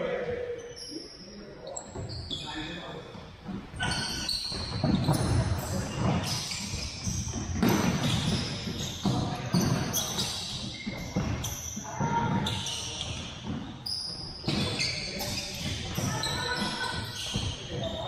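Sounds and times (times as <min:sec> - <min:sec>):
sneakers squeaking: 0:00.0 - 0:18.0.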